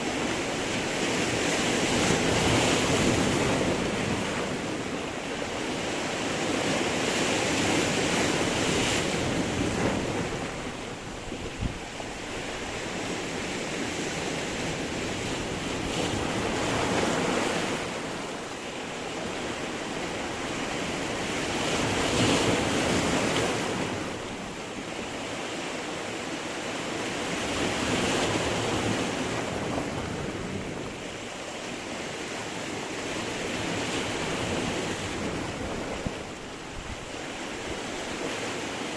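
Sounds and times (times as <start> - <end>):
surf breaking on a stony shore: 0.0 - 38.9.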